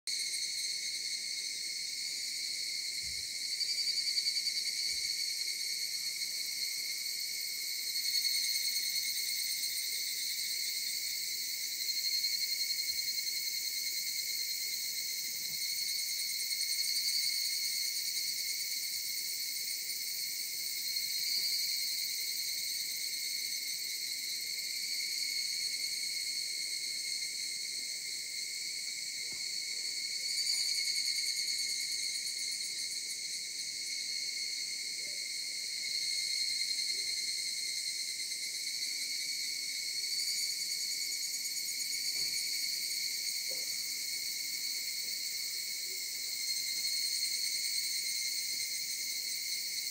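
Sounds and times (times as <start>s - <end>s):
cicadas droning: 0.1s - 49.9s.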